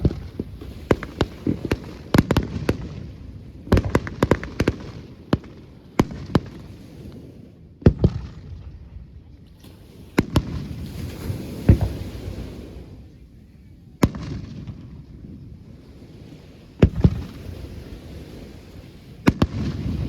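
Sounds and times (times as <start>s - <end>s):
fireworks crackle and rumble: 0.0s - 20.0s.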